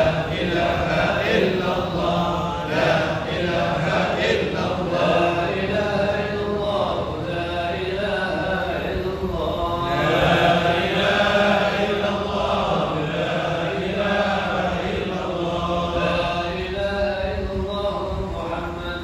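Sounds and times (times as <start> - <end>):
congregation chanting in unison: 0.0 - 19.0.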